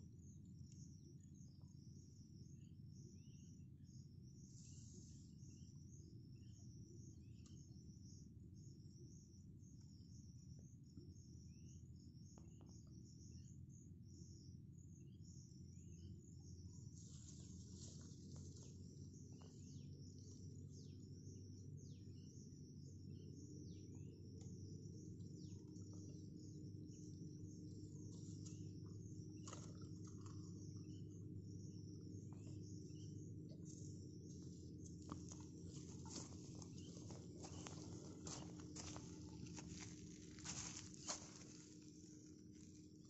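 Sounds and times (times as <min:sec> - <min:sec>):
insects chirping in pulsing trill: 0:00.0 - 0:43.0
low steady rumble: 0:00.0 - 0:43.0.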